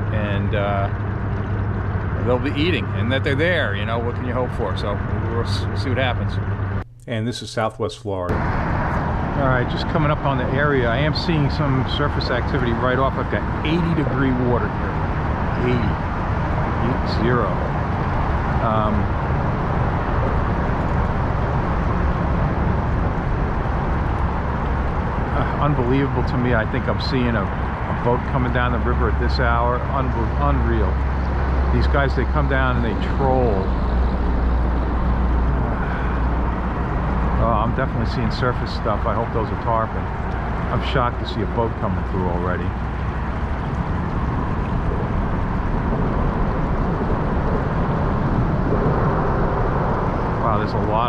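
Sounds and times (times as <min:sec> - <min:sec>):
low rumbling of kayak under way: 0:00.0 - 0:06.8, 0:08.3 - 0:51.0
steady rushing water: 0:08.3 - 0:51.0.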